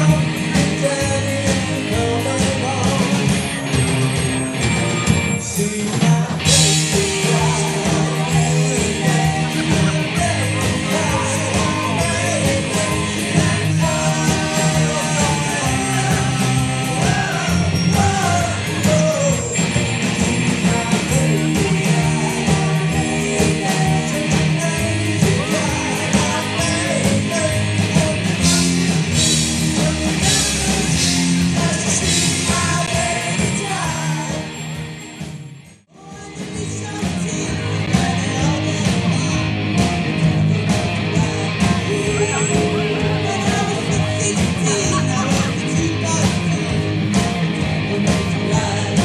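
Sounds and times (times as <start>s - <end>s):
lead vocal singing: 0.0s - 34.8s, 35.9s - 49.0s
live rock band playing: 0.0s - 49.0s.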